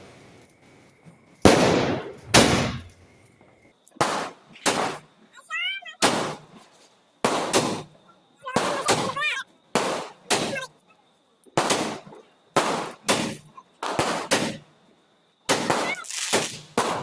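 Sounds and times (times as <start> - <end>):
firecrackers exploding: 0.0 - 3.0, 3.9 - 5.2, 6.0 - 10.7, 11.5 - 14.7, 15.4 - 17.0.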